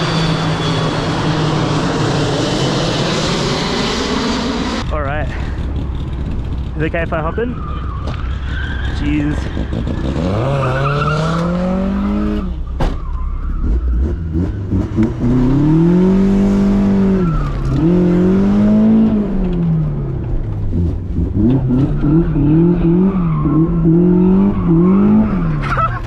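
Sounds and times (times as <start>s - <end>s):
car engine revving: 0.0s - 12.8s, 13.5s - 26.0s.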